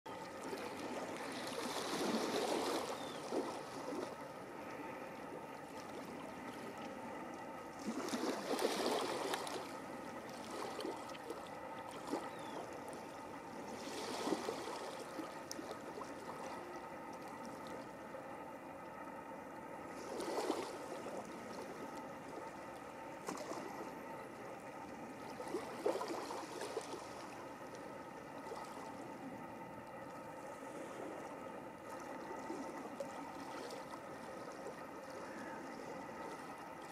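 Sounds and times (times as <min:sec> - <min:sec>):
small waves on rocky shore: 0:00.1 - 0:18.3, 0:19.8 - 0:36.9.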